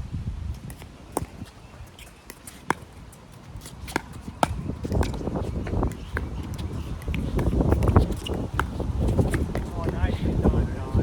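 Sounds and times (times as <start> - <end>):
wind buffeting microphone: 0.0 - 2.2, 2.8 - 11.0.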